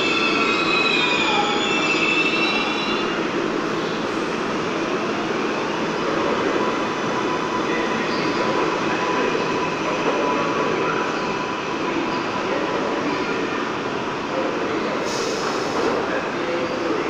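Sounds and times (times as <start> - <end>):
subway train running: 0.0 - 17.0.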